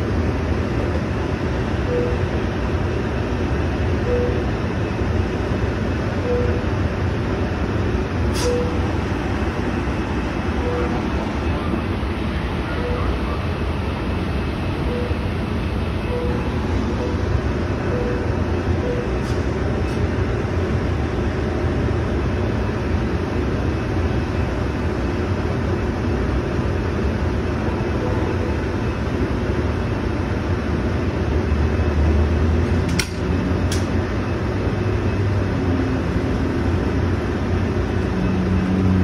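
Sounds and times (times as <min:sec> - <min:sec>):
train coaches rumbling past: 0:00.0 - 0:39.0.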